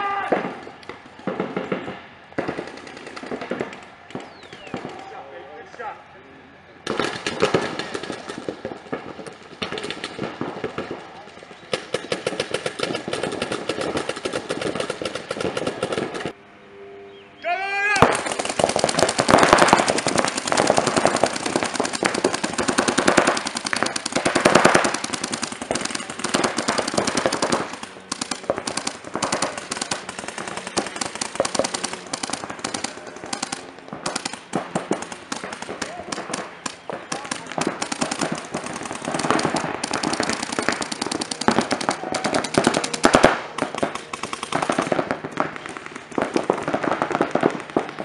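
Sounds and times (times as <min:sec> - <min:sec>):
paintball markers firing: 0:00.4 - 0:05.0, 0:06.9 - 0:16.3, 0:18.0 - 0:48.0.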